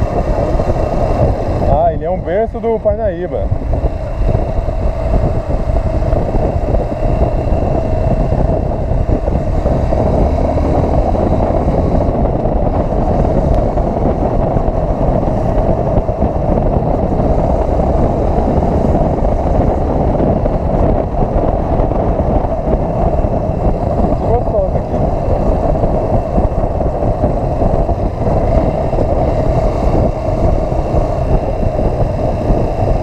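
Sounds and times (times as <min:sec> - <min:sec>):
motorcycle engine drone: 0:00.0 - 0:33.0
wind rushing over microphone: 0:00.0 - 0:33.0.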